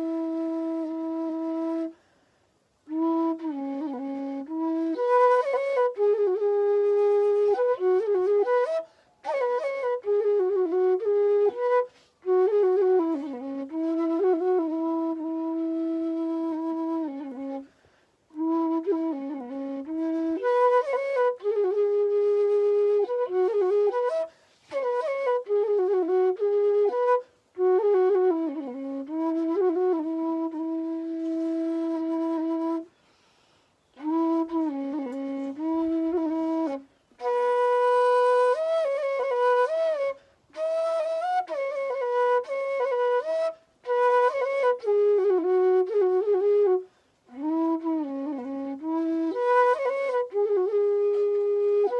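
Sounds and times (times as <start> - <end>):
solo flute melody: 0.0 - 51.9.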